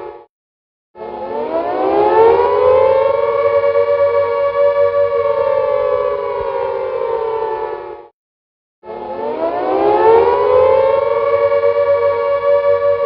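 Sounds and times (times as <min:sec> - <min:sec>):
air-raid siren wailing: 0:00.0 - 0:00.3, 0:01.0 - 0:08.1, 0:08.8 - 0:13.0.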